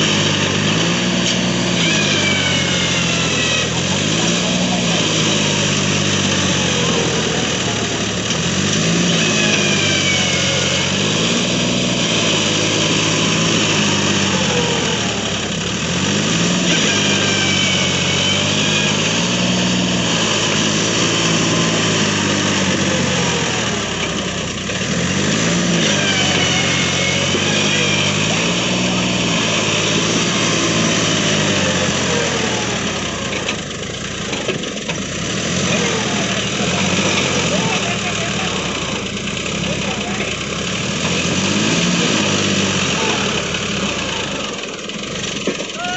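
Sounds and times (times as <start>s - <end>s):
tractor diesel engine revving: 0.0s - 45.9s.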